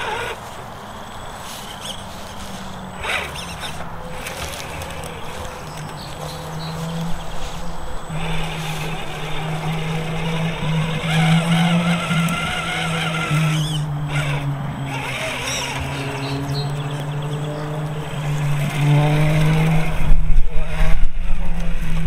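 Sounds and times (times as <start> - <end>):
rc truck motor whining: 0.0 - 22.0.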